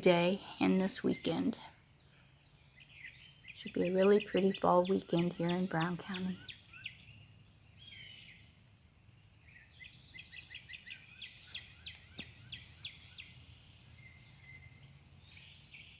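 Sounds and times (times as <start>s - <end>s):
songbird chirping: 0.0s - 15.9s.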